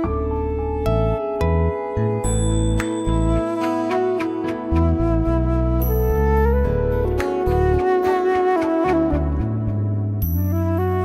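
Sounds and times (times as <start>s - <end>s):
flute-like melody: 0.0s - 11.0s.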